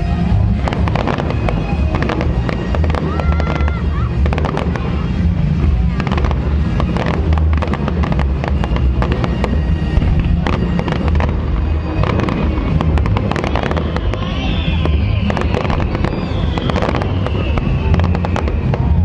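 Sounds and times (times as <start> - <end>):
falling firework whistle: 0.0 - 5.2, 6.1 - 19.0
fireworks bangs and crackles: 0.0 - 19.0.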